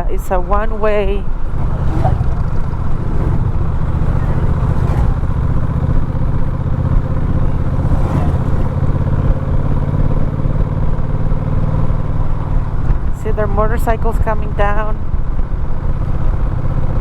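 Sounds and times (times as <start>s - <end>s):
road rumble: 0.0s - 17.0s
vehicle engine drone: 0.0s - 17.0s.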